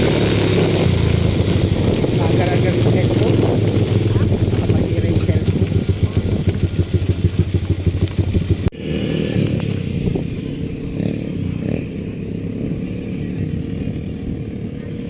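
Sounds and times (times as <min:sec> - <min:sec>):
atv engine pulsing: 0:00.0 - 0:15.0.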